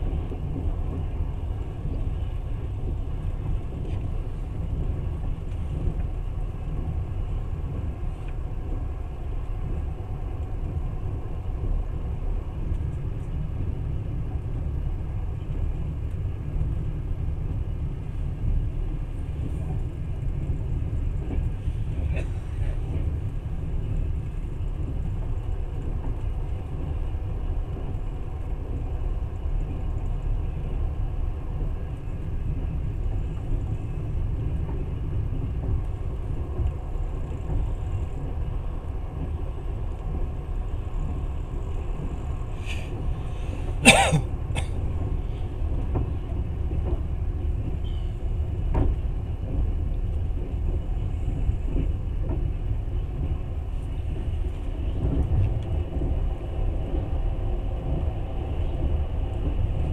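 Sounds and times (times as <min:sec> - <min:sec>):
train rumbling from inside carriage: 0:00.0 - 0:59.9.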